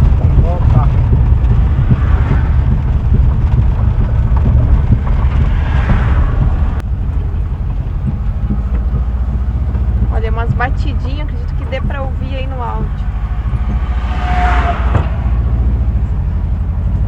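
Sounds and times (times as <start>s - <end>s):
light knocking from wheel: 0.0s - 17.0s
van engine and road rumble: 0.0s - 17.0s.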